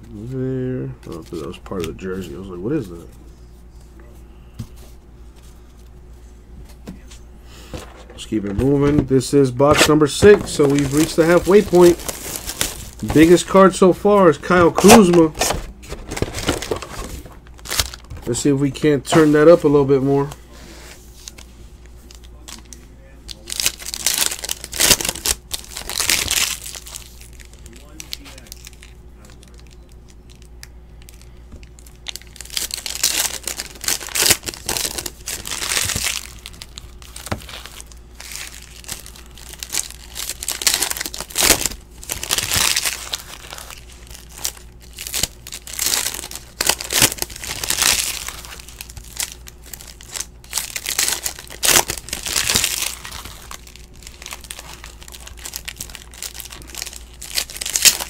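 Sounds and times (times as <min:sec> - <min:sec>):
foil wrappers crinkling and tearing: 0:00.1 - 0:03.1, 0:08.2 - 0:20.4, 0:21.1 - 0:58.0.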